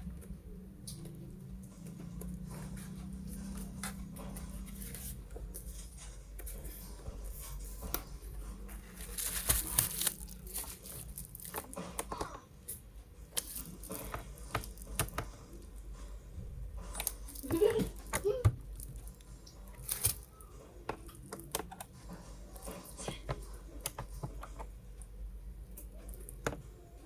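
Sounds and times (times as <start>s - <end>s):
rustling of objects handled: 1.6s - 26.8s.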